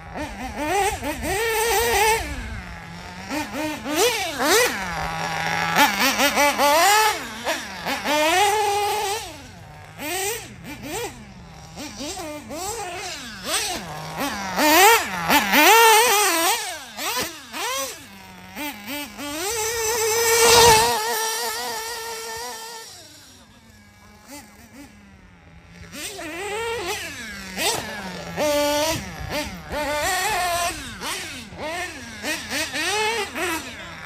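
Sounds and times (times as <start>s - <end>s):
model car engine revving: 0.0s - 34.0s.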